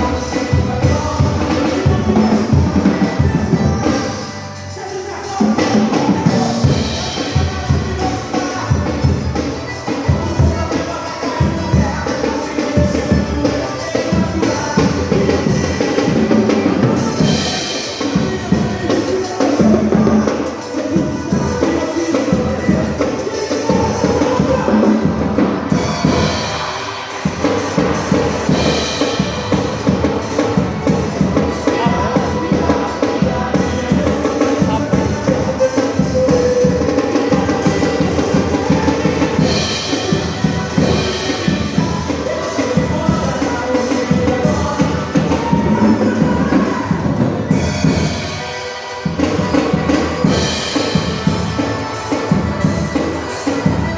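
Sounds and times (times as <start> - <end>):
bass drum and snare beat: 0.0 - 4.4, 5.2 - 53.9
recorded worship band music: 0.0 - 53.9.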